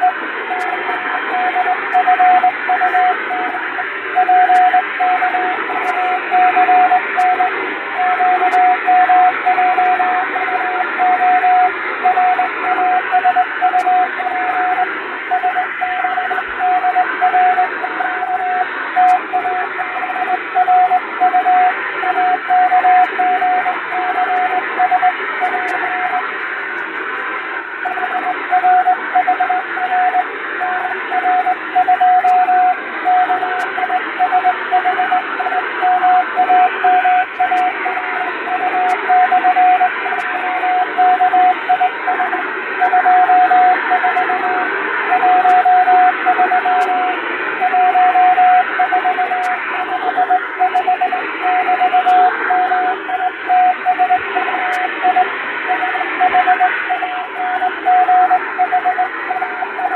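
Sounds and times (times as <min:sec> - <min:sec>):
morse code tone: 0:00.0 - 0:03.6, 0:04.2 - 0:26.2, 0:27.8 - 0:59.9
shortwave receiver hiss: 0:00.0 - 0:59.9.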